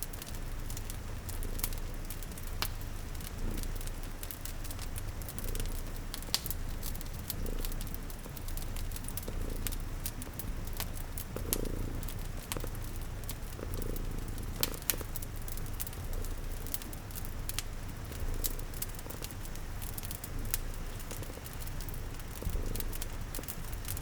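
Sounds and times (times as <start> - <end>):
cat purring: 0.0 - 24.0
rain pattering: 0.0 - 24.0
wood fire crackling: 0.0 - 24.0.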